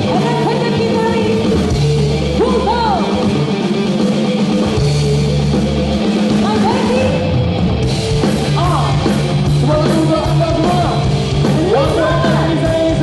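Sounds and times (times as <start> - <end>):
electric guitars bending notes: 0.0 - 13.0
rock band playing: 0.0 - 13.0.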